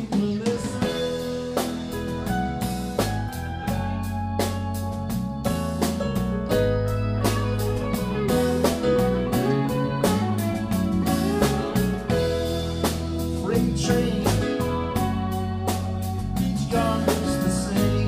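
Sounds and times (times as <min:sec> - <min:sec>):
bass guitar: 0:00.0 - 0:18.0
drum kit beat: 0:00.0 - 0:18.0
electric guitar: 0:00.0 - 0:18.0.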